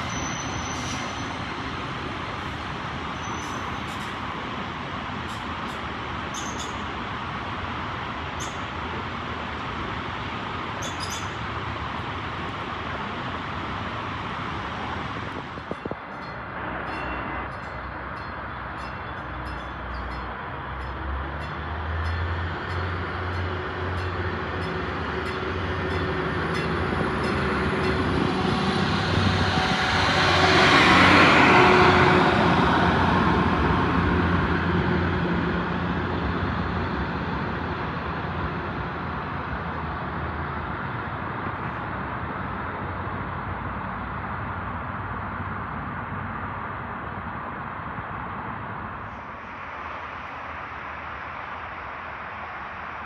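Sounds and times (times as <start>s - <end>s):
passenger train rumbling past: 0.0s - 53.0s.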